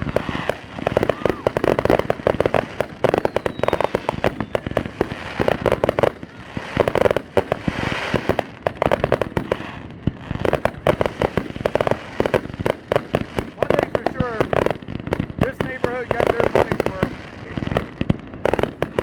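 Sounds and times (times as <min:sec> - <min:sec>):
fireworks bangs and pops: 0:00.0 - 0:19.0
fireworks hissing crackle: 0:00.0 - 0:19.0.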